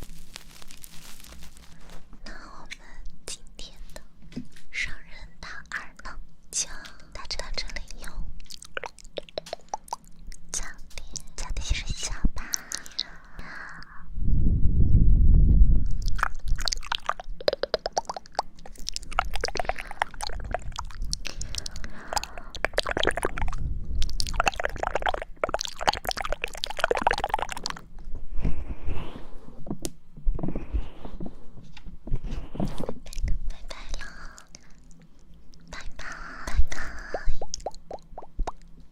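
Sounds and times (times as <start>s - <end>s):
wet crackling and scraping in ear: 0.0s - 3.0s, 6.7s - 13.9s, 15.8s - 28.2s, 29.6s - 38.9s.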